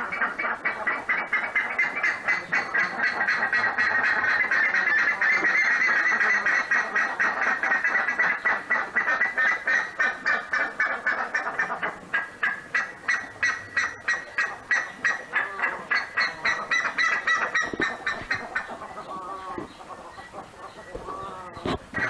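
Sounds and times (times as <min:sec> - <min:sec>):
ibis honking calls: 0:00.0 - 0:22.0.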